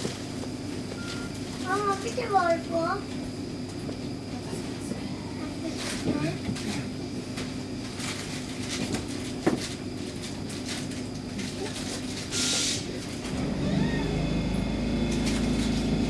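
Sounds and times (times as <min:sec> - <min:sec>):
deeper hum of train: 0:00.0 - 0:16.0
steady low hum: 0:00.0 - 0:16.0.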